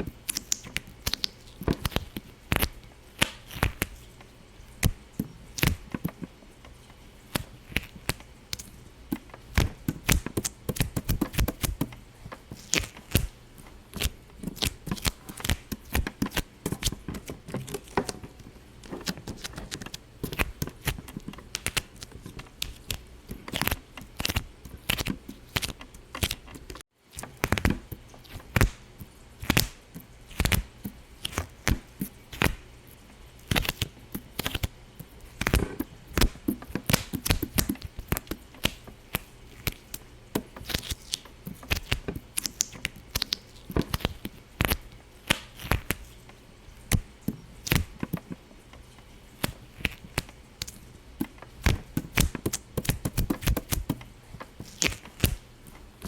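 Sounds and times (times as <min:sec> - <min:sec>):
sharp pops and clicks: 0:00.1 - 0:04.0, 0:04.7 - 0:32.7, 0:33.5 - 0:46.1, 0:46.8 - 0:55.4.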